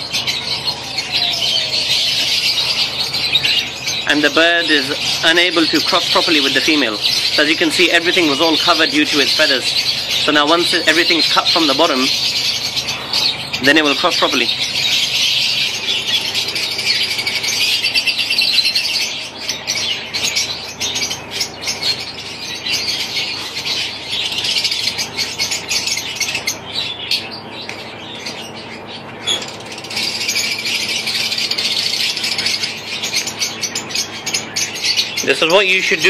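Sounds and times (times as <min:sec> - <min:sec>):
birds chattering and chirping: 0:00.0 - 0:36.0.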